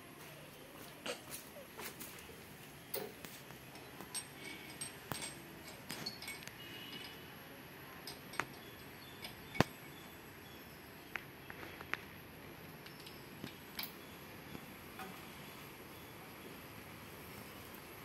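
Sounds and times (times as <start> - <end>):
light metallic clicks and clinks: 0.9 - 12.0, 12.7 - 16.6.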